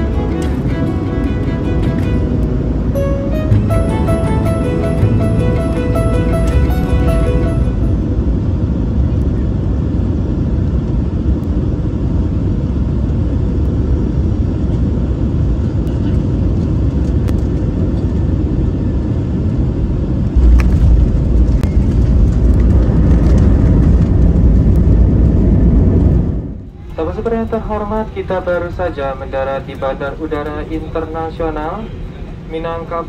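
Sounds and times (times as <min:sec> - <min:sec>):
airplane landing rumble: 0:00.0 - 0:33.0.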